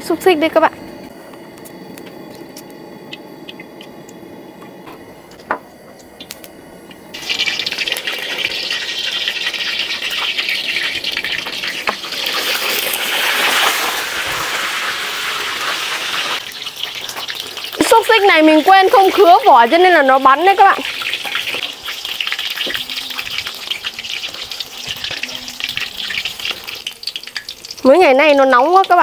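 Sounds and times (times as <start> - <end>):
sausages sizzling in oil: 0.0 - 29.0.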